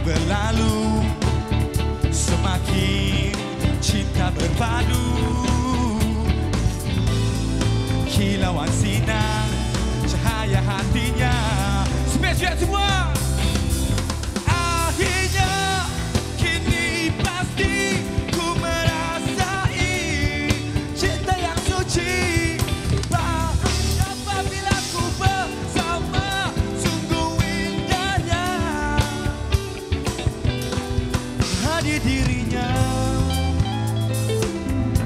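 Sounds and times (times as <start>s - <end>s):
man singing: 0.0s - 13.5s, 14.4s - 35.0s
live rock band: 0.0s - 35.0s.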